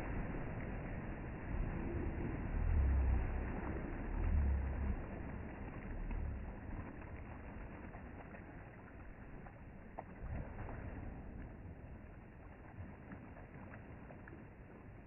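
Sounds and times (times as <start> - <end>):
water dripping: 0.0 - 15.0
water splashing and sloshing: 0.0 - 15.0.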